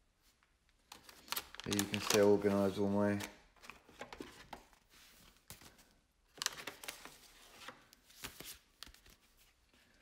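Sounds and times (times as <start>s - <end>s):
paper envelopes rustling: 0.8s - 10.0s.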